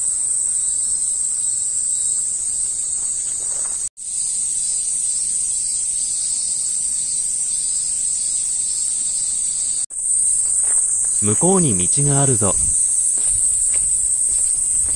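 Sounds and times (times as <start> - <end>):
cicadas shrilling: 0.0 - 14.9.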